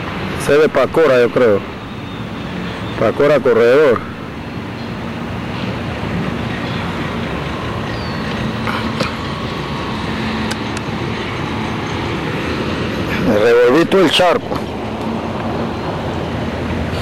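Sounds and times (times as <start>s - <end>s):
engine drone: 0.0s - 17.0s
road traffic noise: 0.0s - 17.0s.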